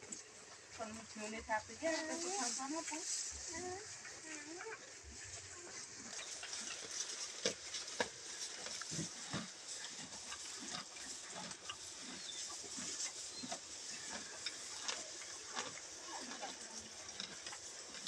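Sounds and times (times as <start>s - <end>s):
cattle munching grass: 0.0s - 18.0s.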